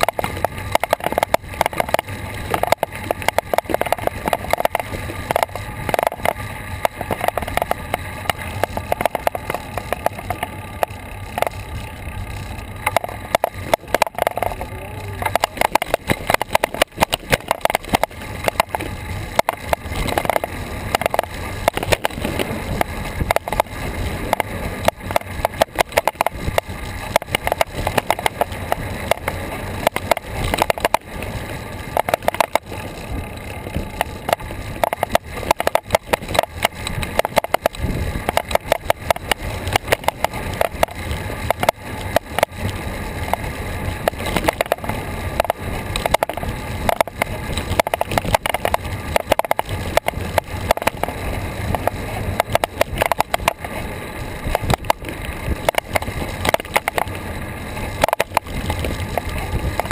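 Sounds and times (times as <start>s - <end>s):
bicycle rattling and clattering: 0.0s - 59.9s
tyre noise: 0.0s - 59.9s
wind noise: 0.0s - 59.9s.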